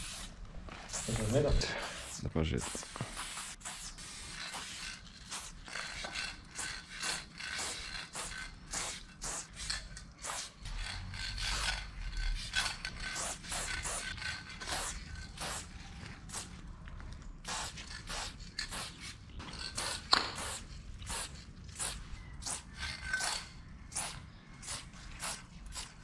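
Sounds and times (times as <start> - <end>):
spray paint can hissing: 0.0 - 16.6, 17.4 - 26.0.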